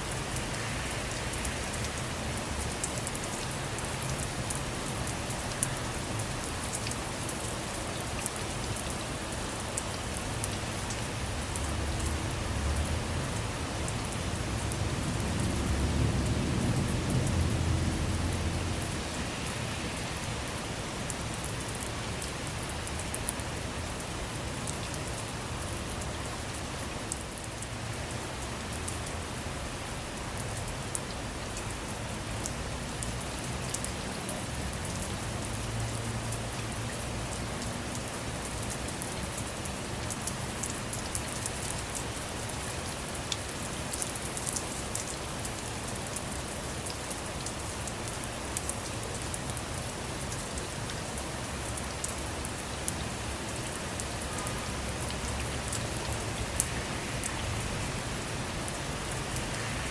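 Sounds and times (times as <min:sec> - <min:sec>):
rain falling on a vehicle roof: 0:00.0 - 0:59.9.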